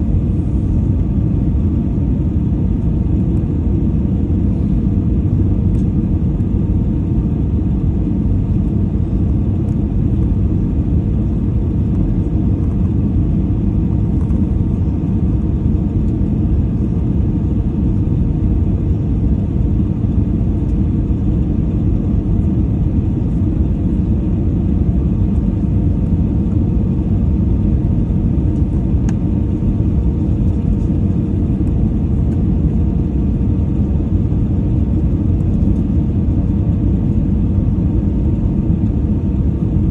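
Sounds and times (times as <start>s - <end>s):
faint steady hum: 0.0s - 39.9s
jet engine and airflow rumble: 0.0s - 39.9s.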